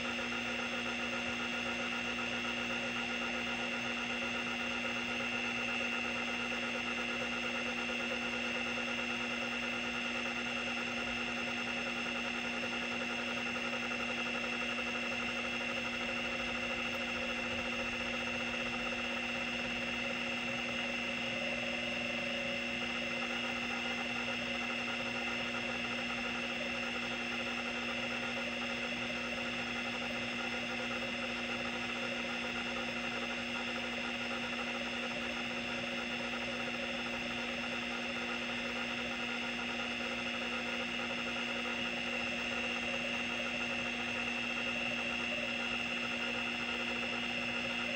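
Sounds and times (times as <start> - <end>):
hard drive motor whine: 0.0 - 47.9.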